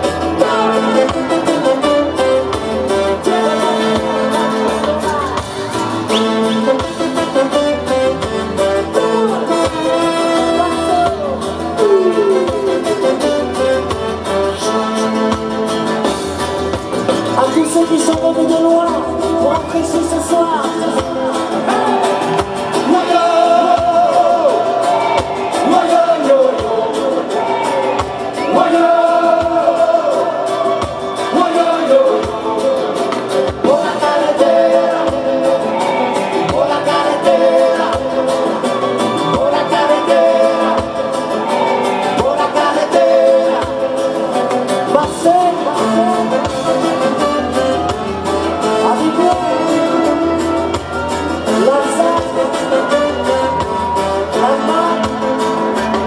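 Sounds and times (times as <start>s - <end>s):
live band over loudspeakers: 0.0s - 56.0s
person singing: 0.0s - 56.0s.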